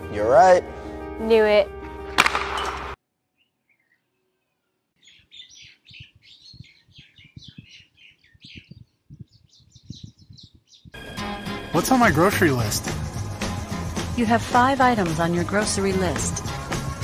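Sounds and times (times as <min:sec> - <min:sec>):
birds chirping: 0:02.4 - 0:17.0.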